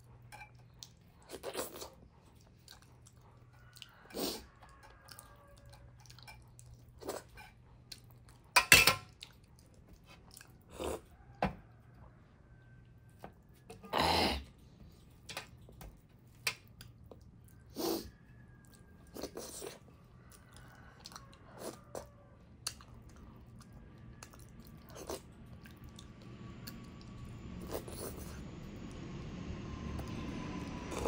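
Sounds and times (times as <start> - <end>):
wet chewing: 0.0 - 12.0, 14.5 - 29.0
low steady hum: 4.5 - 31.0.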